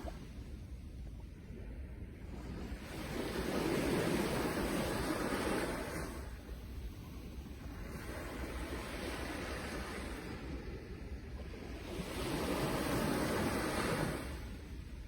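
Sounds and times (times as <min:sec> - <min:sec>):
sea waves breaking on shore: 0:01.6 - 0:15.0.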